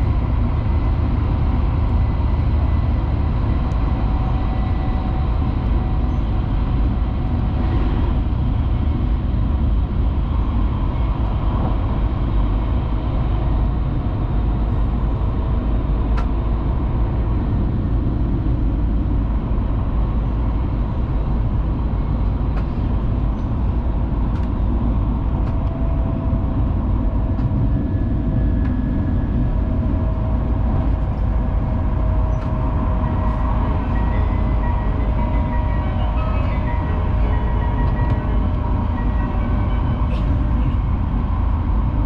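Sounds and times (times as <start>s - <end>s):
train interior rumble: 0.0s - 42.0s.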